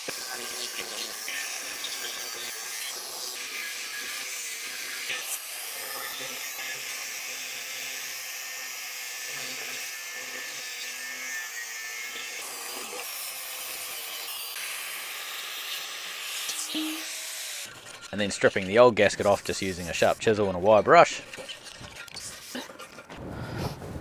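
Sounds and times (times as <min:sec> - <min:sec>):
power tool grinding metal: 0:00.0 - 0:23.1.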